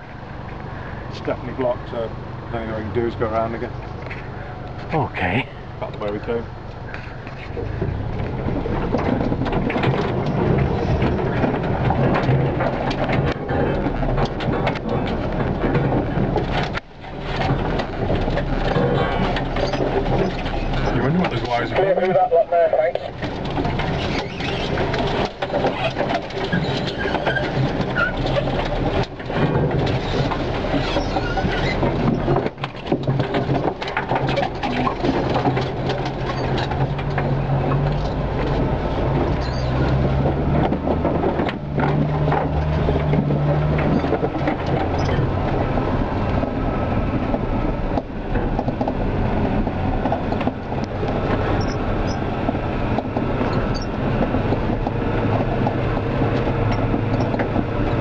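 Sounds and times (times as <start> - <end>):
vehicle engine running low: 0.0 - 58.0
vehicle knocks and rattles: 0.0 - 58.0.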